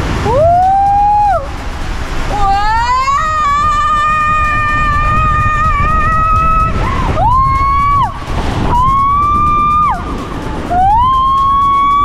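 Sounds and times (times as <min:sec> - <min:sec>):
low rush of water: 0:00.0 - 0:12.0.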